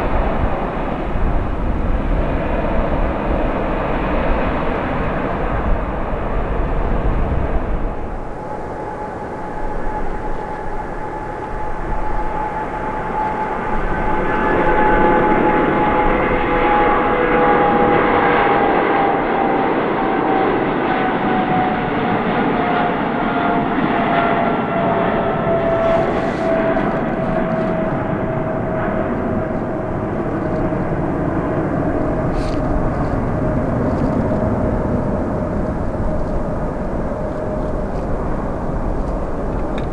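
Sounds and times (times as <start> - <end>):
jet airliner engines passing: 0.0 - 39.9.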